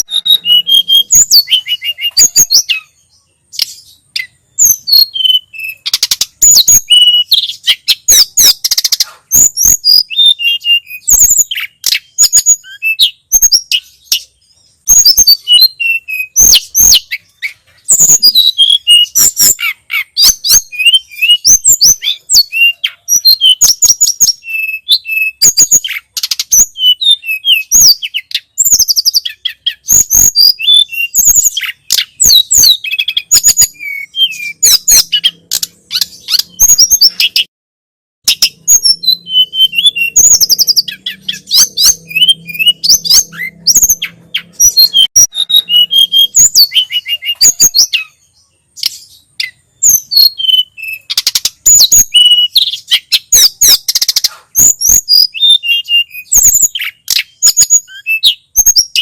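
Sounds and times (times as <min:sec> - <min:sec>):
songbird singing high chirps: 0:00.0 - 0:37.5, 0:38.2 - 0:59.0.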